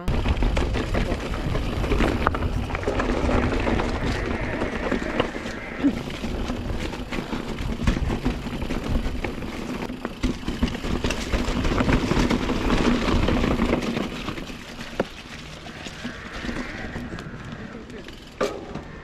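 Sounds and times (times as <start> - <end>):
bike tyres rolling on dirt: 0.0 - 19.0.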